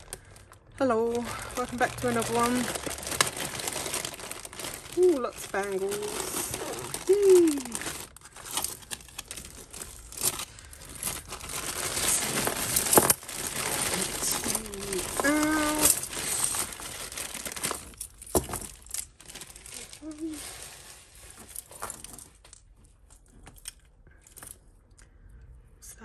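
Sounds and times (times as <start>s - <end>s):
plastic bag crinkling: 0.0s - 22.7s.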